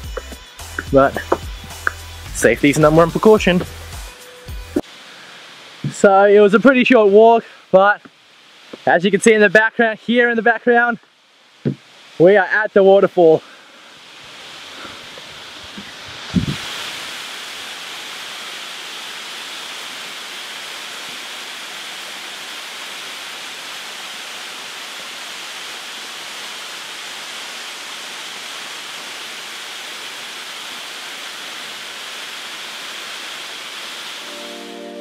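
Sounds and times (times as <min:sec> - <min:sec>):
waterfall rushing onto boulders: 0:04.8 - 0:34.8.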